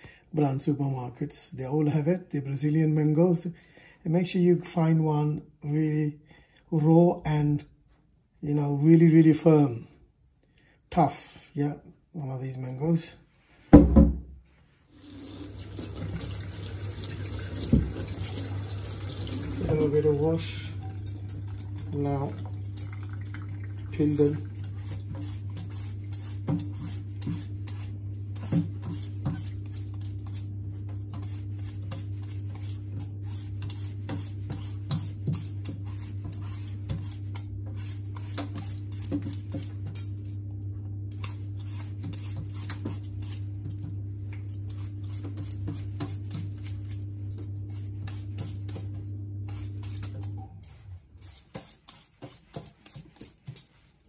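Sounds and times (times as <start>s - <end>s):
low electrical hum: 0.1s - 54.0s.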